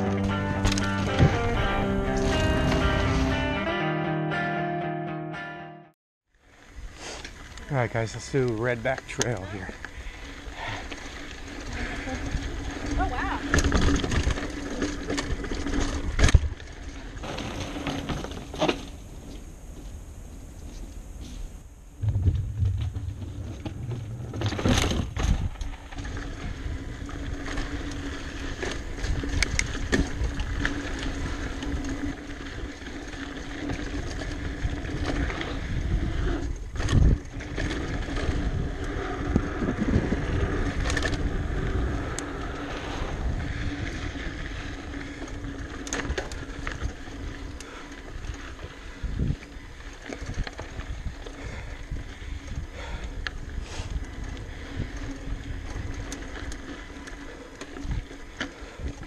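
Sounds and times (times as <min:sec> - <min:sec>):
bike tyres rumbling on dirt: 0:00.0 - 0:03.5, 0:06.4 - 0:59.0
bike knocking and rattling: 0:07.5 - 0:59.0.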